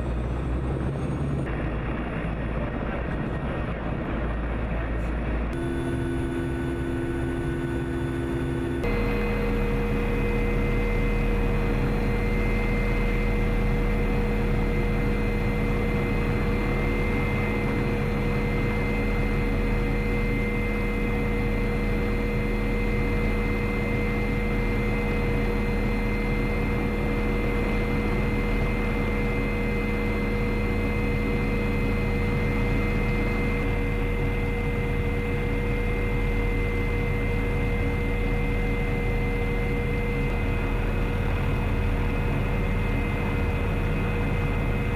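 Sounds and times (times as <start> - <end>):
helicopter turbine and rotor: 0.0 - 44.9.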